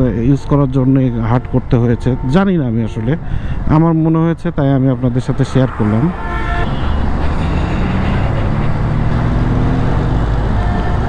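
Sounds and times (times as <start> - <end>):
rumble of buses and trucks: 0.0 - 11.0
wind and road noise: 0.0 - 11.0.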